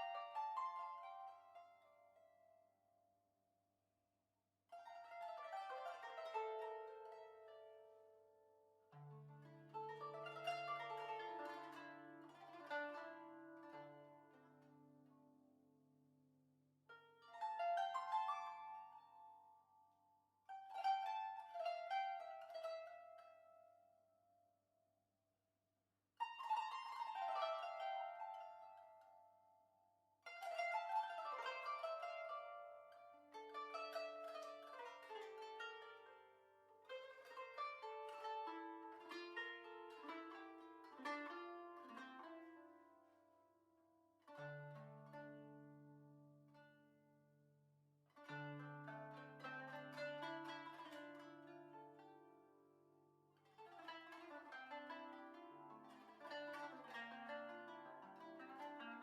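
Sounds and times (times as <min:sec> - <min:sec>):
plucked string music: 0:00.0 - 0:02.5, 0:04.7 - 0:15.2, 0:16.9 - 0:19.5, 0:20.5 - 0:23.7, 0:26.2 - 0:29.3, 0:30.2 - 0:43.4, 0:44.2 - 0:47.1, 0:48.1 - 0:59.0.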